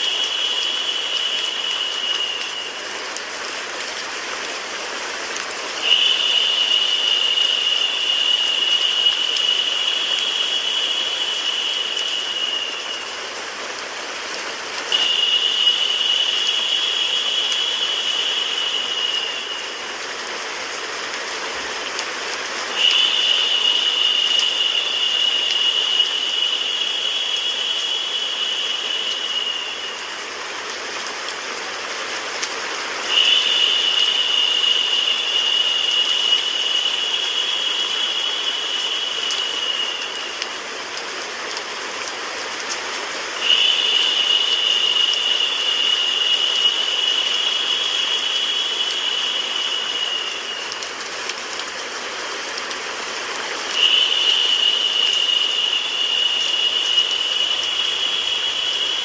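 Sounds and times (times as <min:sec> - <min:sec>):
high narrow hiss: 0:00.0 - 0:59.0.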